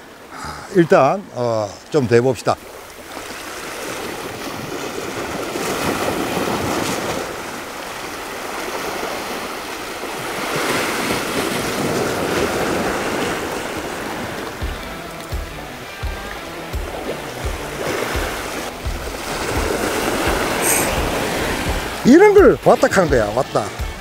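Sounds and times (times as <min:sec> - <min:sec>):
sea waves washing against rocks: 0:00.0 - 0:24.0.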